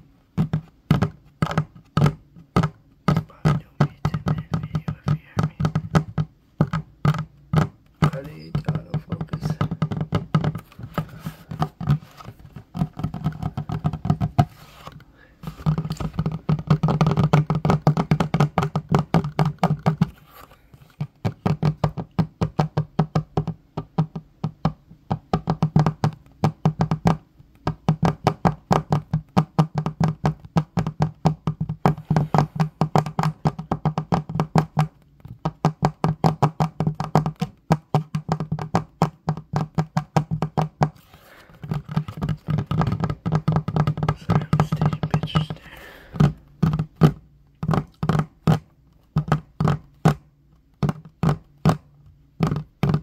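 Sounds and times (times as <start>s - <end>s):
fingers tapping on wooden table: 0.0s - 53.0s.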